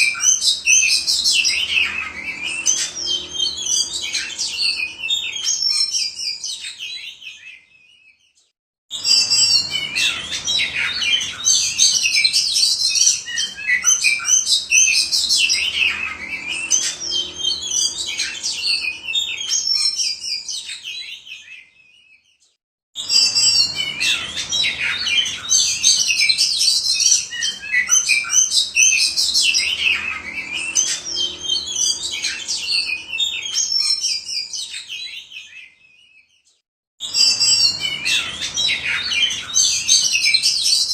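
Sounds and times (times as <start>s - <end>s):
bird song with whistles and trills: 0.0s - 40.9s.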